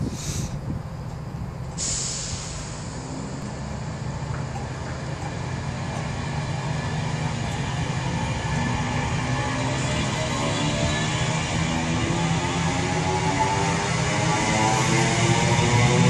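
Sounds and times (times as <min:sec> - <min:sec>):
low diesel hum: 0:00.0 - 0:14.0
train coaches rolling past: 0:00.9 - 0:16.0.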